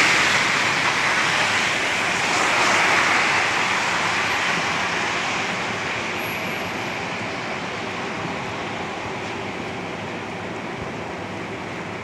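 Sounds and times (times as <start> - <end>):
steady rain: 0.0 - 12.0
tyres hissing on wet road: 0.0 - 12.0.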